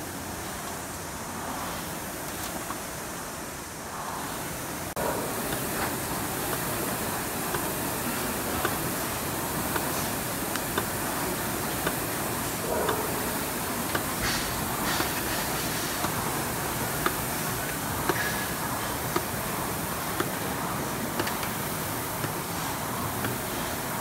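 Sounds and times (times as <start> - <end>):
rowing machine flywheels whirring: 0.0 - 24.0.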